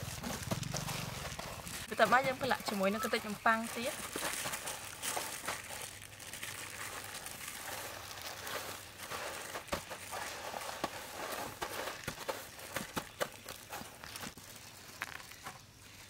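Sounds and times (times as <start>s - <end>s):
breadcrumbs rustling and crunching: 0.0s - 16.0s.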